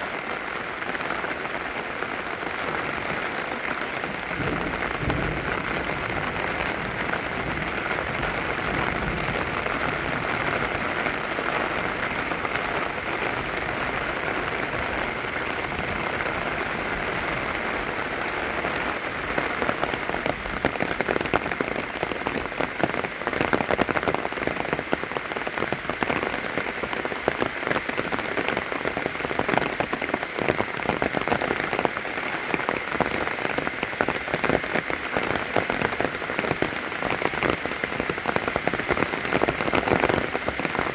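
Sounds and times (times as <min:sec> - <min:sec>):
close raindrops pattering: 0:00.0 - 0:40.9
steady rain hiss: 0:00.0 - 0:40.9.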